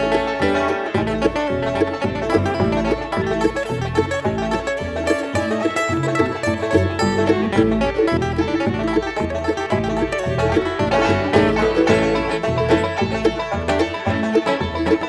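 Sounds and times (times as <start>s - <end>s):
acoustic bluegrass band playing: 0.0s - 15.0s.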